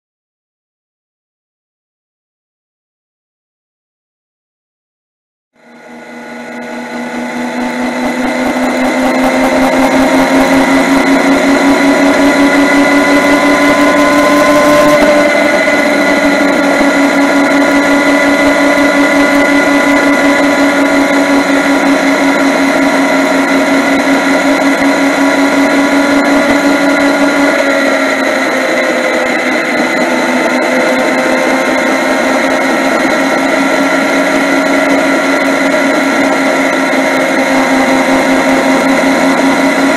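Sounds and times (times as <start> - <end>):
motorcycle engine whine: 5.6 - 39.9.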